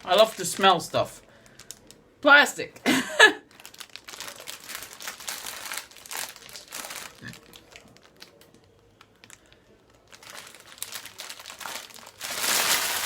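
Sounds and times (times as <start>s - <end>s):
plastic packaging crinkling: 0.0s - 2.0s, 3.4s - 13.0s.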